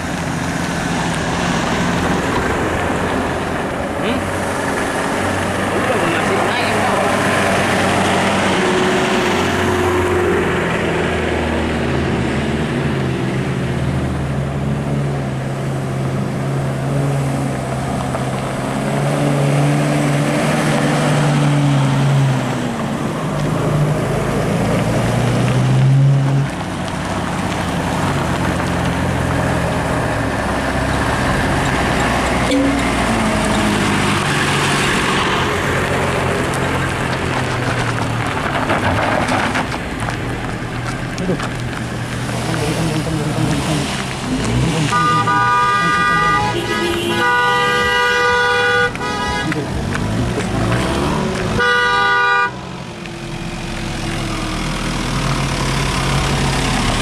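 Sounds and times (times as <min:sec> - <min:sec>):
vehicle engines revving: 0:00.0 - 0:57.0.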